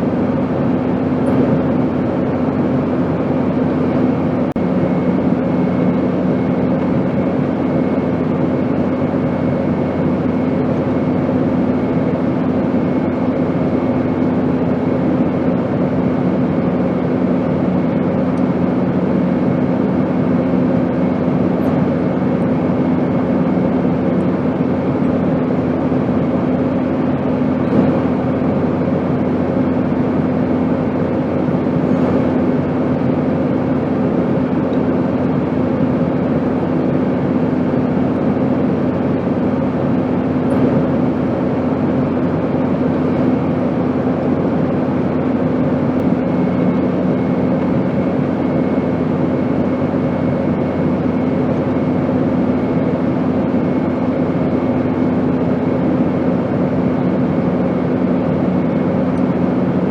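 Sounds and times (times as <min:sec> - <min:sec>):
airplane cabin rush: 0:00.0 - 0:59.9
low hum: 0:00.0 - 0:59.9.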